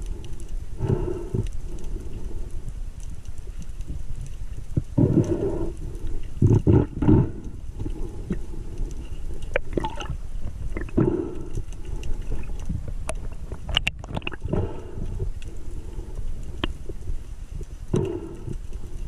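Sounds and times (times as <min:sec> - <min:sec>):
underwater rumble of moving water: 0:00.0 - 0:19.0.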